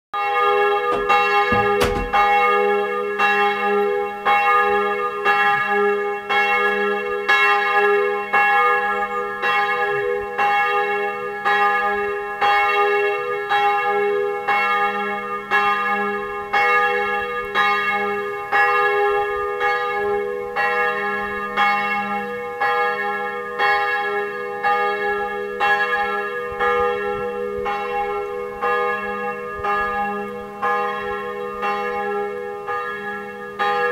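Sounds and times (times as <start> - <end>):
church bells ringing: 0.2 - 33.9.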